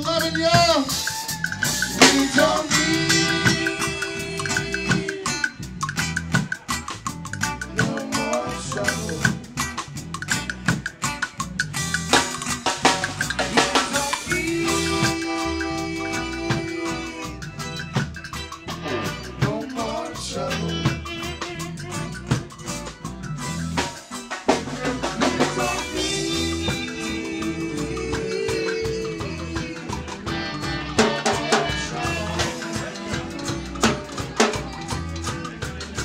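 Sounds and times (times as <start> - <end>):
drums and cymbals: 0.0 - 36.0
live rock band playing: 0.0 - 36.0.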